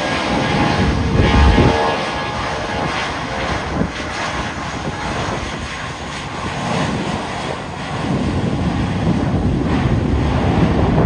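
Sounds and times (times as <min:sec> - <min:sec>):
jet engine rumble: 0:00.0 - 0:11.0
wind buffeting microphone: 0:00.0 - 0:11.0.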